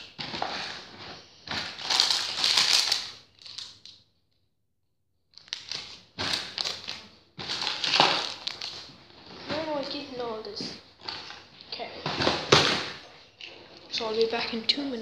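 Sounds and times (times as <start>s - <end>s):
plastic crinkling and rustling: 0.0s - 4.0s, 5.3s - 15.0s.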